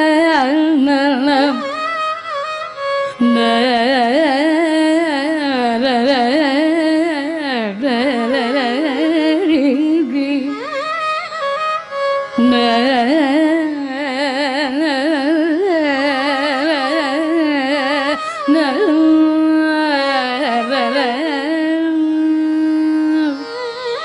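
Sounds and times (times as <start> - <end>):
woman singing: 0.0 - 2.3, 3.1 - 11.3, 12.3 - 24.0.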